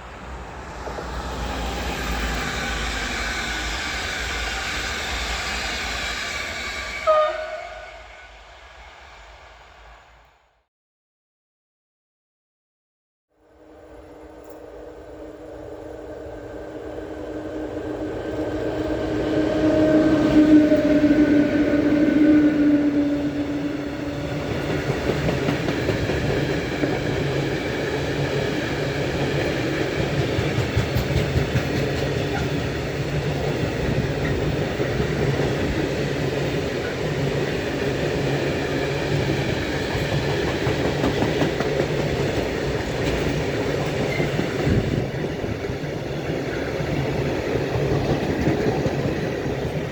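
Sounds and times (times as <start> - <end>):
rolling train wheels: 0.0 - 10.2, 13.7 - 49.9
electric train hum: 0.0 - 10.5, 13.4 - 49.9.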